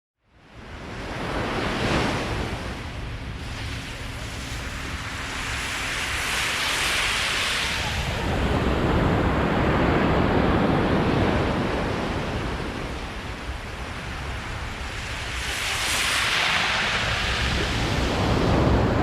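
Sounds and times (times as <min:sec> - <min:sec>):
sea waves washing on beach: 0:00.4 - 0:19.0
wind rumbling on microphone: 0:00.4 - 0:19.0.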